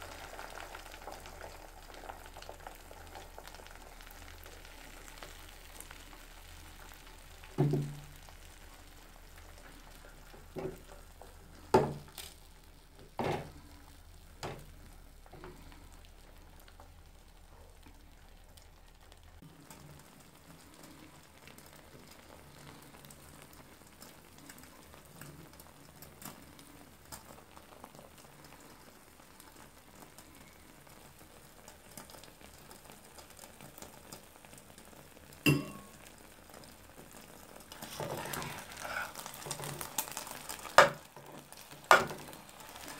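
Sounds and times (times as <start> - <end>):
eggs sizzling in pan: 0.0 - 42.9.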